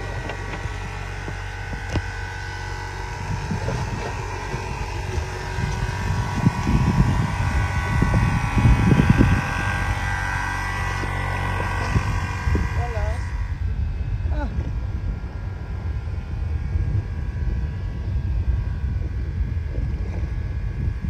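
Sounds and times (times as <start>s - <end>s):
motor humming with held tones: 0.0s - 21.0s
wind buffeting microphone: 0.0s - 21.0s.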